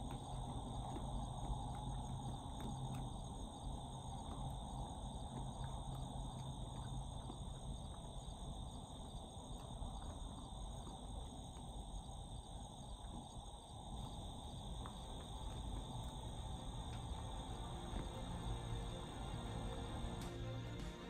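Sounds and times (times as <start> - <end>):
faint ticks: 0.0 - 21.0
insects trilling: 0.0 - 21.0.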